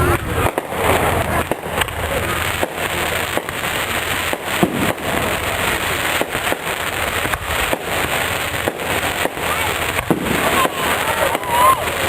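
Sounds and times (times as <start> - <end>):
fireworks crackling: 0.0 - 12.0
sharp firework bangs: 0.0 - 12.0.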